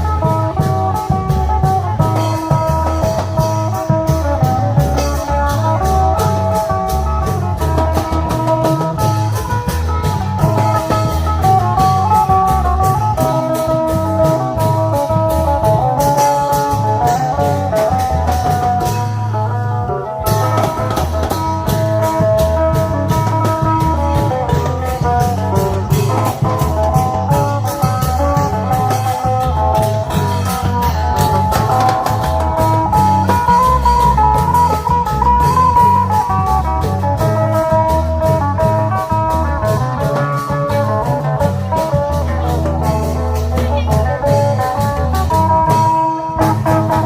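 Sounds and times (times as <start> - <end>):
clattering percussion: 0.0 - 19.6, 20.2 - 47.0
amplified plucked-string melody: 0.0 - 47.0
drums: 0.0 - 47.0.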